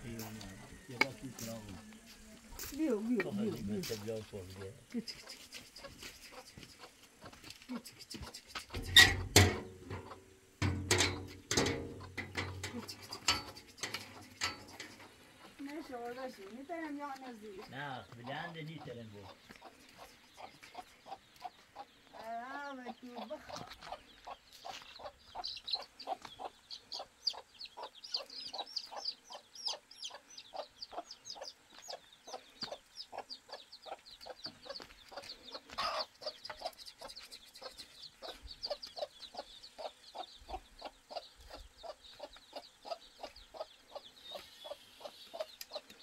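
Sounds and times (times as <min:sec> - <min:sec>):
chicks peeping: 0:00.0 - 0:10.3, 0:11.0 - 0:46.0
chickens clucking: 0:00.0 - 0:46.0.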